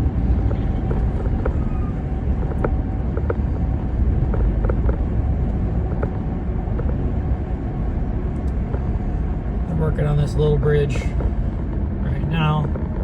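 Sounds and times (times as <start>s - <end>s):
car road noise at highway speed: 0.0s - 13.0s.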